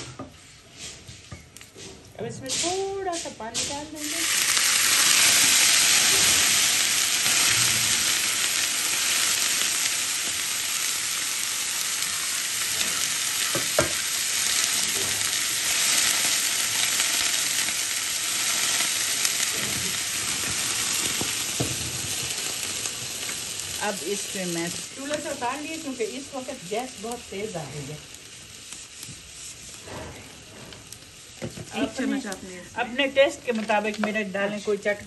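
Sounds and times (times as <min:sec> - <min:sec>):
paste sizzling in hot oil: 0:02.4 - 0:35.0.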